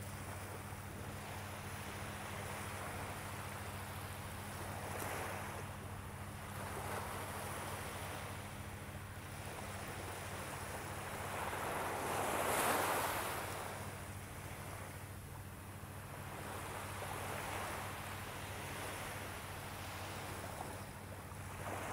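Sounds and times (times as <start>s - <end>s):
small waves washing on a beach: 0.0s - 21.9s.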